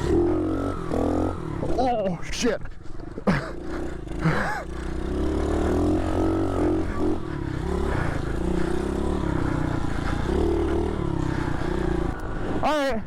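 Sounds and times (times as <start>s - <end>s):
pit bike engine revving: 0.0s - 12.8s.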